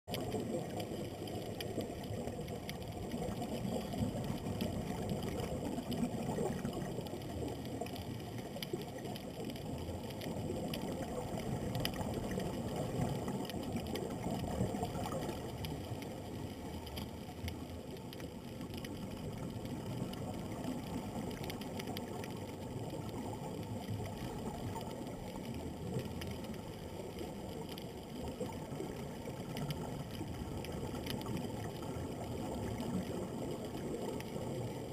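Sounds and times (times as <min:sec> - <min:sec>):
underwater rush of water: 0:00.0 - 0:34.9
faint ticks: 0:00.1 - 0:34.9.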